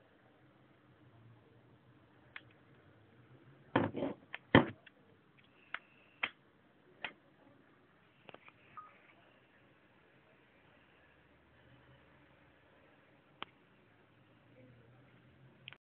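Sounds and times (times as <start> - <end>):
laptop cooling fan hum: 0.0 - 15.8.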